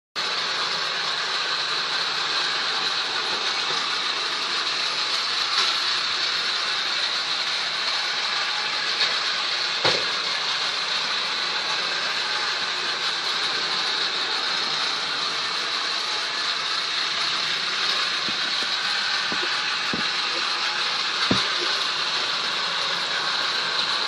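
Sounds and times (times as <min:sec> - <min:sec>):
heavy rain hissing: 0:00.4 - 0:24.0.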